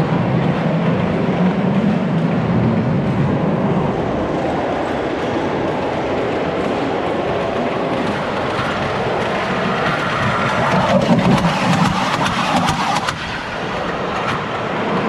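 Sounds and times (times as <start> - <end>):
background hubbub: 0.0 - 15.0
small train rumbling over track: 0.0 - 15.0
wheels clicking and rattling on rails: 0.0 - 15.0.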